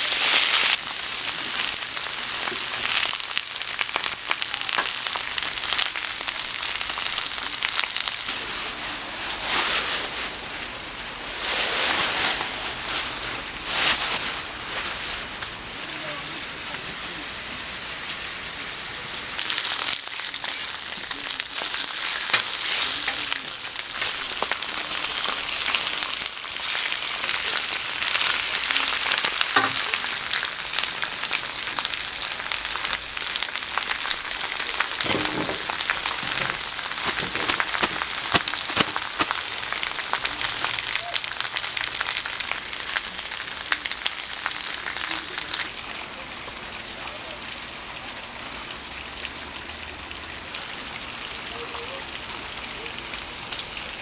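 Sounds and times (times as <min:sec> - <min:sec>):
meat sizzling on a griddle: 0:00.0 - 0:54.0.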